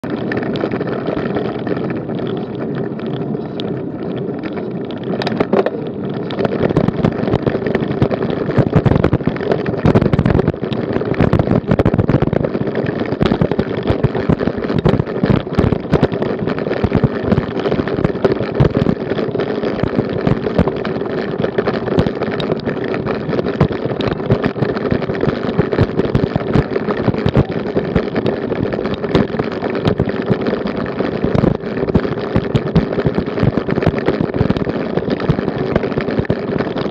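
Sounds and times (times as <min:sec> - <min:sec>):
bicycle rattling over cobblestones: 0:00.0 - 0:36.9
bicycle rolling on tarmac: 0:00.0 - 0:36.9
steady hum: 0:00.0 - 0:36.9
wind on microphone: 0:00.0 - 0:36.9.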